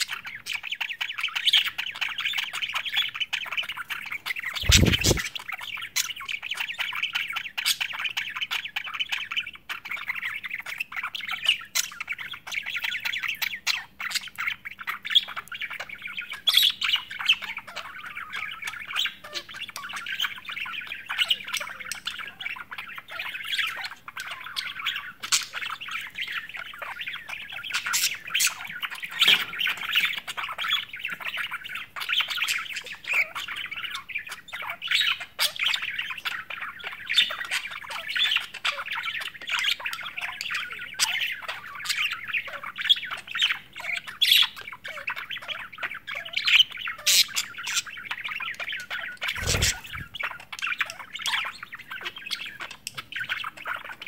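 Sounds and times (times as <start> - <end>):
budgerigars chattering: 0.0 - 54.0
sharp bird chirps and squawks: 0.0 - 54.0.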